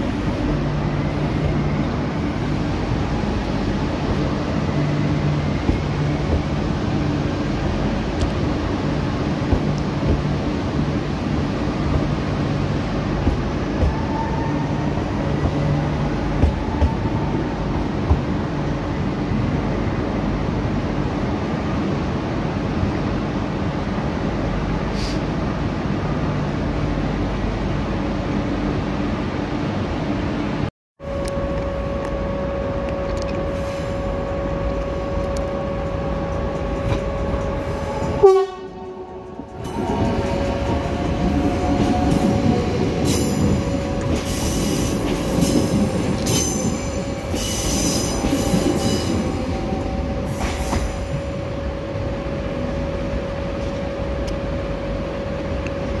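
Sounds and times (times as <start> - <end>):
electric train wheels rumbling: 0.0 - 56.0
train high whine: 0.0 - 56.0.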